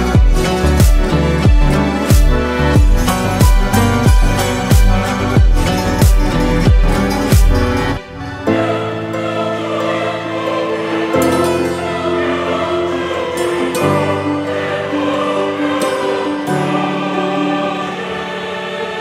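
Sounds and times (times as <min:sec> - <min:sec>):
sustained background chords: 0:00.0 - 0:19.0.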